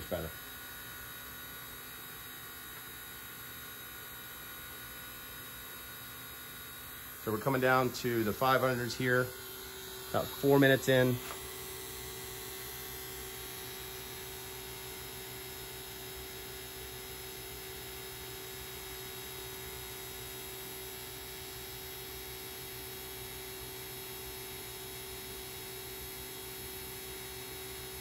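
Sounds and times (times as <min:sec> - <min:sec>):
vacuum pump humming: 0:00.0 - 0:28.0.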